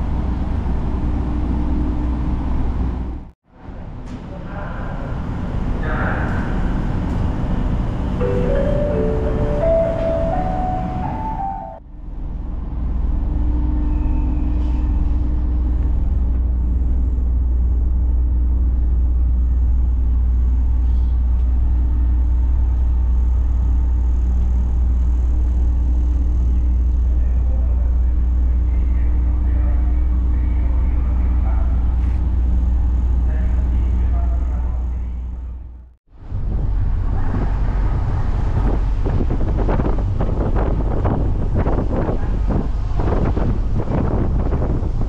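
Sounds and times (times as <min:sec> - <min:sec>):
ferry engines rumbling: 0:00.0 - 0:45.0.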